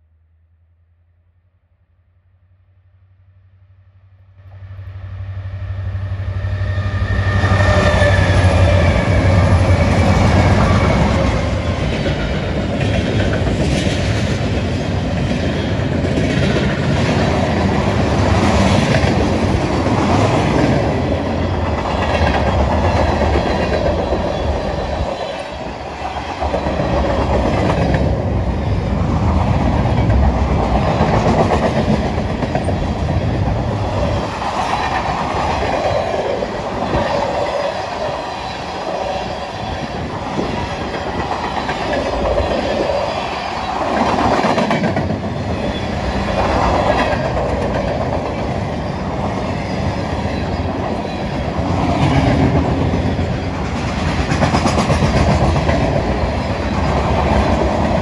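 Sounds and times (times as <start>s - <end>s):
locomotive engines droning: 4.3s - 13.7s, 14.3s - 54.1s
train wheels clickety-clack: 7.4s - 38.2s, 40.3s - 58.0s.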